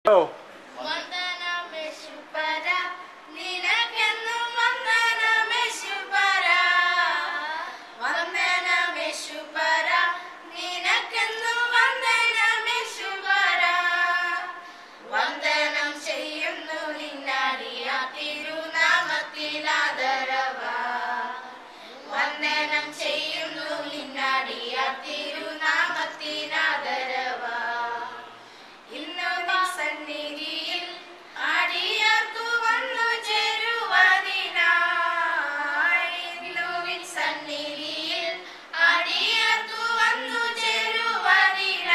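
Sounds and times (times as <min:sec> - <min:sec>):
woman and children singing: 0:00.7 - 0:41.9.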